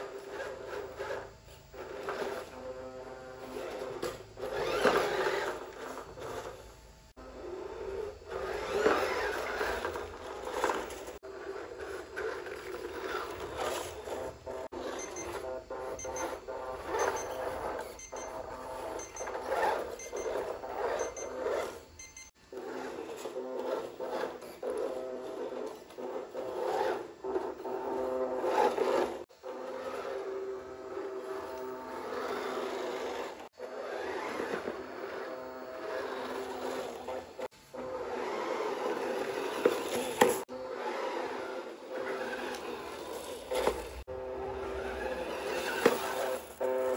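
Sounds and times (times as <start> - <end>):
small electric motor whining: 0.0 - 46.9
tyres scraping in sand: 0.0 - 46.9.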